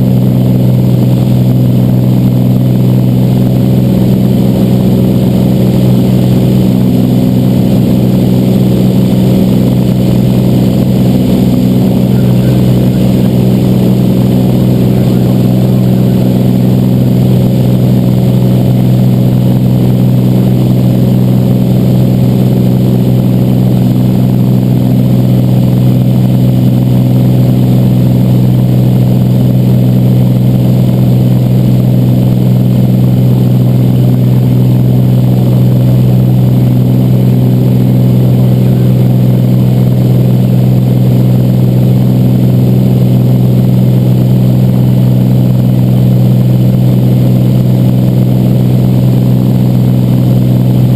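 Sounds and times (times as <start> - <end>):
propeller plane engine drone: 0.0 - 50.9.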